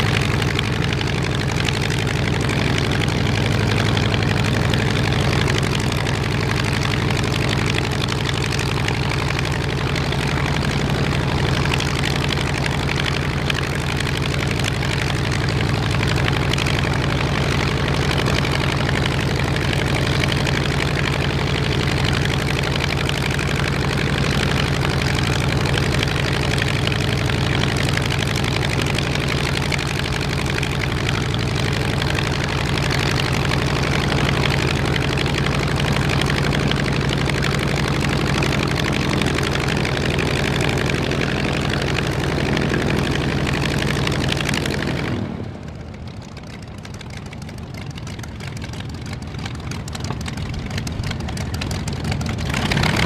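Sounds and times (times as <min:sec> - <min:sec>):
radial engine idling: 0:00.0 - 0:53.0.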